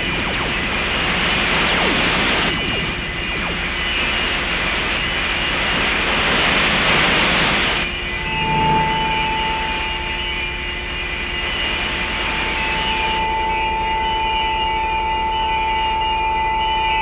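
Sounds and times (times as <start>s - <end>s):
steady high electronic tone: 0.0s - 15.0s.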